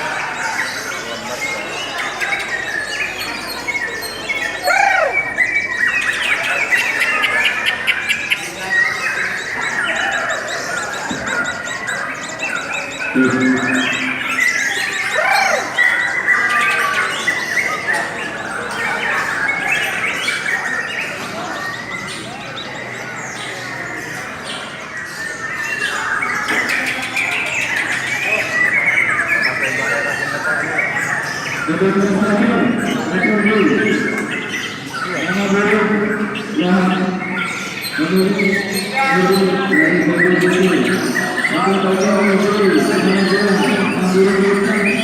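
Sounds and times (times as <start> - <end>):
lovebirds chattering and squawking: 0.0 - 45.0.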